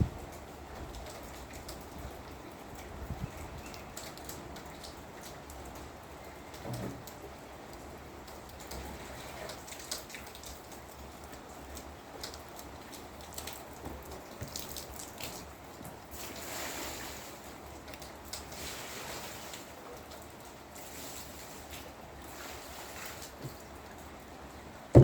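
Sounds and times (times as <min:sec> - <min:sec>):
rain drips and taps: 0:00.0 - 0:25.0.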